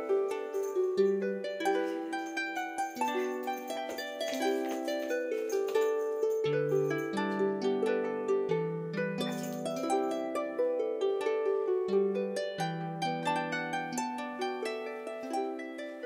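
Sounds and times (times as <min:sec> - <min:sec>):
gentle plucked melody: 0:00.0 - 0:16.0.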